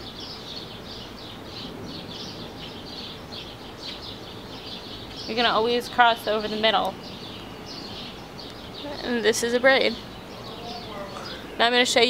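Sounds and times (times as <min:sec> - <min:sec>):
bird chirping: 0:00.0 - 0:12.0
outdoor background hiss: 0:00.0 - 0:12.0.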